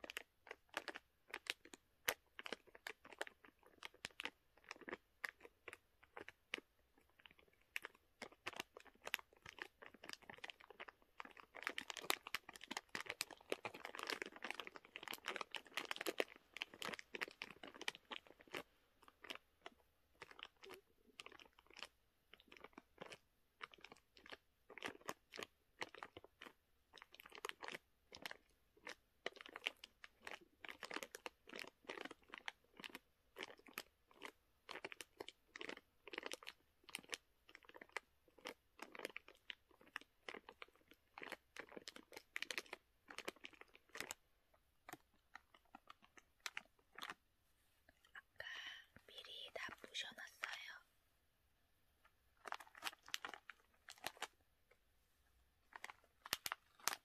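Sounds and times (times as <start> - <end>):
dry noodles crunching in plastic packet: 0.0 - 47.2, 52.0 - 54.5, 55.6 - 57.0.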